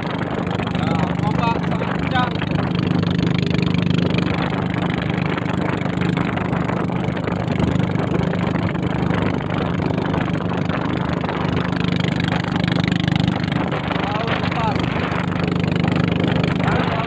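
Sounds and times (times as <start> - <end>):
boat engine humming: 0.0 - 17.0
water splashing along hull: 0.0 - 17.0.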